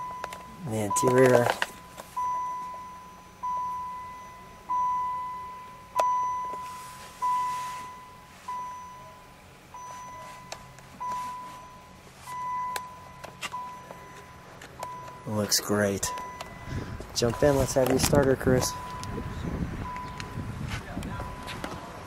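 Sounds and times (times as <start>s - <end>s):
car warning chime dinging: 0.0s - 22.0s.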